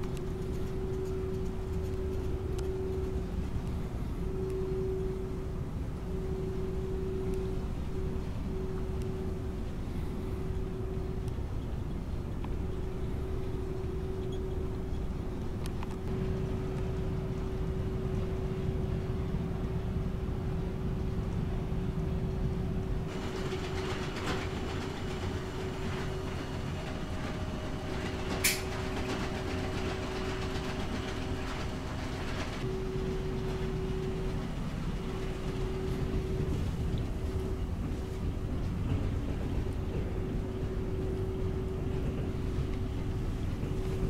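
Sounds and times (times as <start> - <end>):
ferry engine rumble: 0.0 - 44.0
mid-pitched hum: 0.0 - 44.0.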